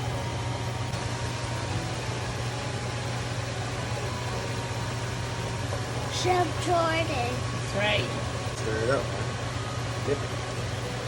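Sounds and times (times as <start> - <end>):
machine hum with rushing noise: 0.0 - 11.0.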